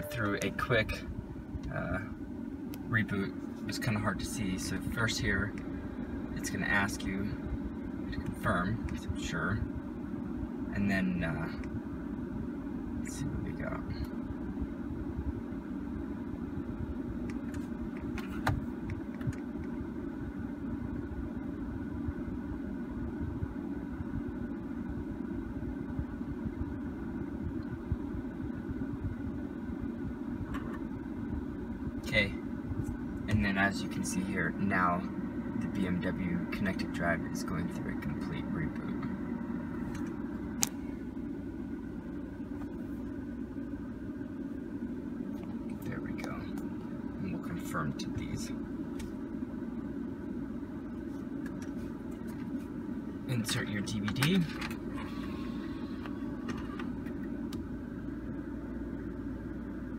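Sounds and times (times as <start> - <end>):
car idling: 0.0 - 59.9.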